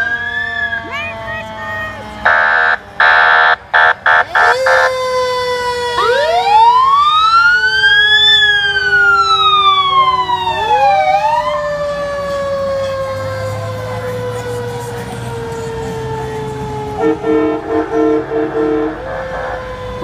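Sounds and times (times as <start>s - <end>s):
fire engine siren wailing: 0.0s - 20.0s
fire engine horn blasts: 0.7s - 5.1s, 8.3s - 20.0s.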